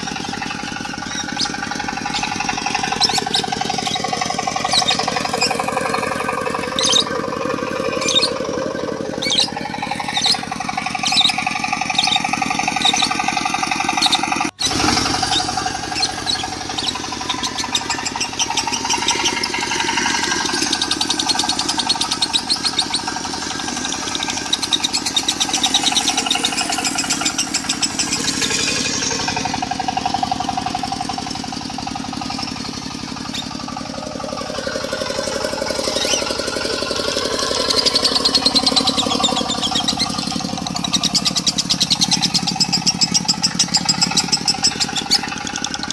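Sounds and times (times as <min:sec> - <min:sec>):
bird chattering trill: 0:00.0 - 0:45.9
diesel engine running: 0:00.0 - 0:45.9.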